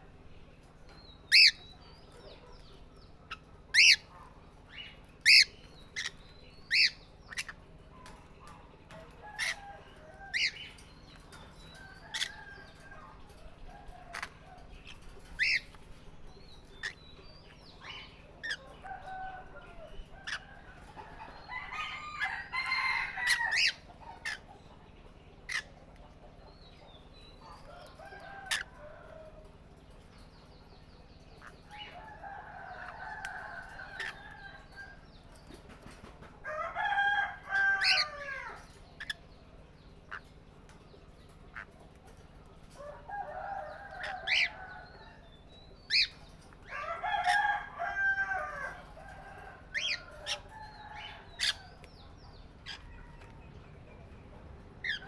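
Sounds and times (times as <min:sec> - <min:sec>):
birds drawn-out calls: 0:01.1 - 0:55.0.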